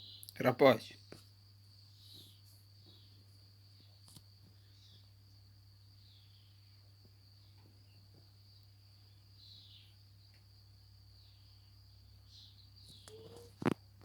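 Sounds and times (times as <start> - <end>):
insect chirring: 0.0 - 14.0.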